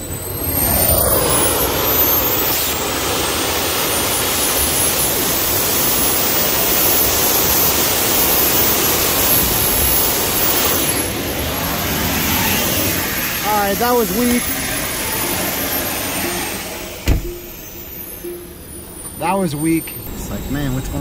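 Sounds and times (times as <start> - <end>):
small jet engines running: 0.0 - 21.0.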